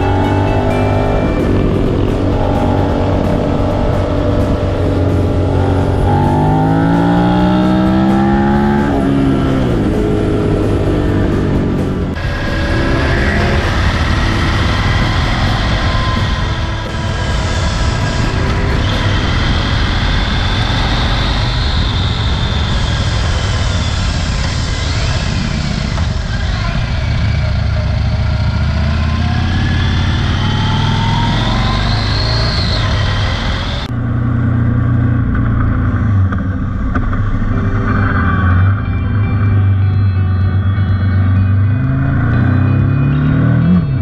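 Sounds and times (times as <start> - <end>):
wind rush: 0.0 - 38.9
motorcycle engine revving: 0.0 - 44.0.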